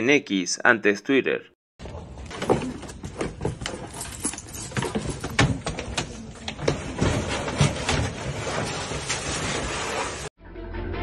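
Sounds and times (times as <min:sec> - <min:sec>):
background noise: 0:00.0 - 0:10.3.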